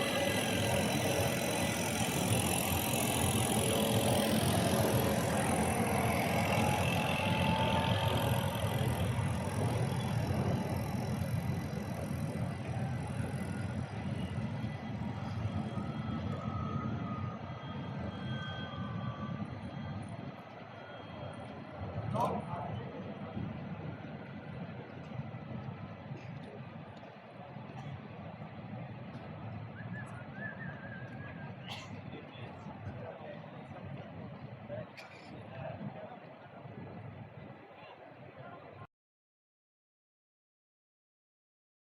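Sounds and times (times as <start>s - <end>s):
tram rumbling on rails: 0.0s - 37.5s.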